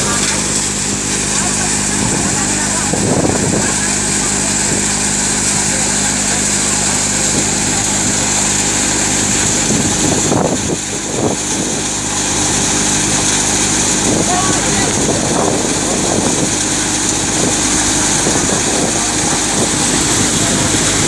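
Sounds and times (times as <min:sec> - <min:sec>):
thresher running: 0:00.0 - 0:21.0.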